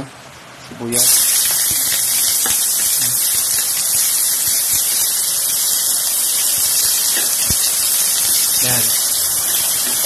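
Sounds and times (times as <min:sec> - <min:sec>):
onion sizzling in oil: 0:01.0 - 0:10.0.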